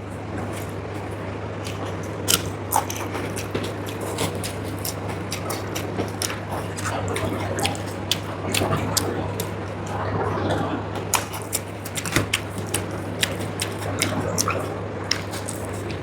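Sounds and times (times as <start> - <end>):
chewing and wet mouth sounds: 0.0 - 16.0
steady low hum: 0.0 - 16.0.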